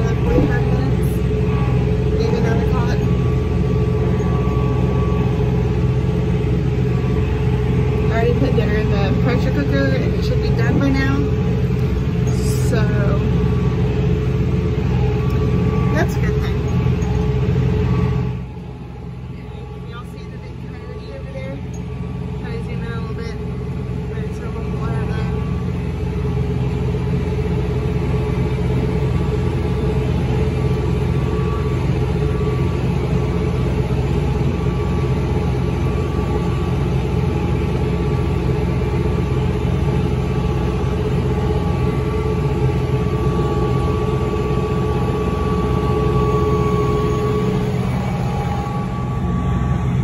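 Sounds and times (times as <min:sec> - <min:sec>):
steady whine: 0:00.0 - 0:50.0
vehicle engine rumble: 0:00.0 - 0:50.0.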